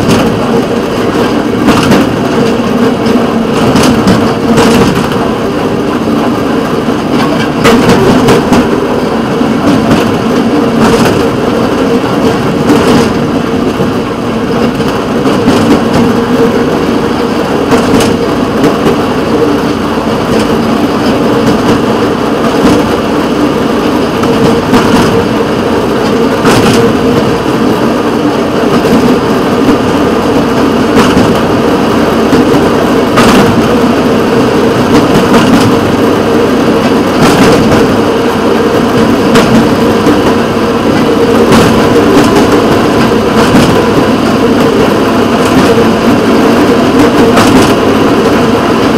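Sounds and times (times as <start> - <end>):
rail vehicle engine running: 0.0 - 48.9.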